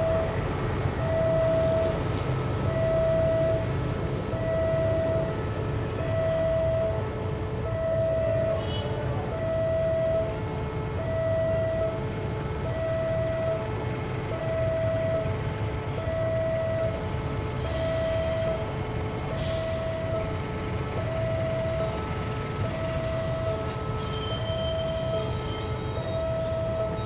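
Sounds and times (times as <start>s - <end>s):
diesel locomotive rumble: 0.0s - 27.0s
two-tone railway warning alarm: 0.0s - 27.0s.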